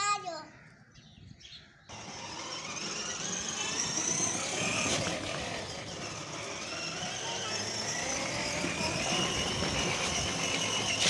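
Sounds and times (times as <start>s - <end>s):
plastic wheels on paving stones: 1.9s - 11.0s
toy car electric drive: 1.9s - 11.0s.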